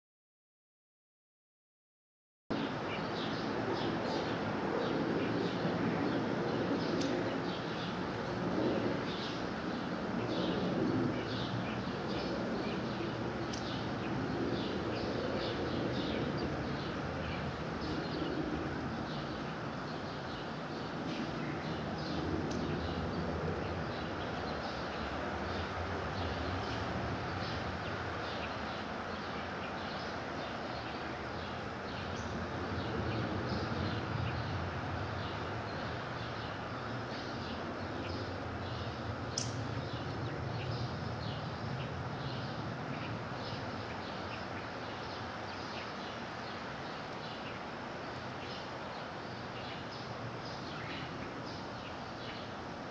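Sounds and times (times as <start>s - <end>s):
small birds chirping: 2.6s - 52.8s.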